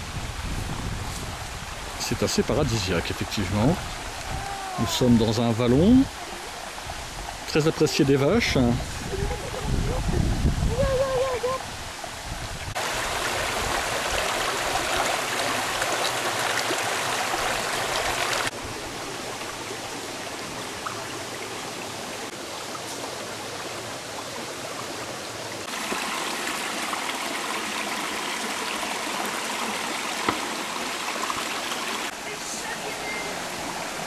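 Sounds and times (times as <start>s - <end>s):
river rushing over boulders: 0.0s - 34.0s.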